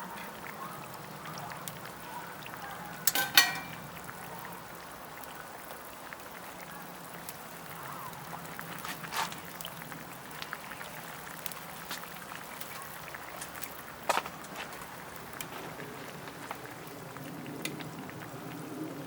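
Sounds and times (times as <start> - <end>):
small crackles and ticks: 0.0 - 19.0
soup simmering in a pot: 0.0 - 19.0.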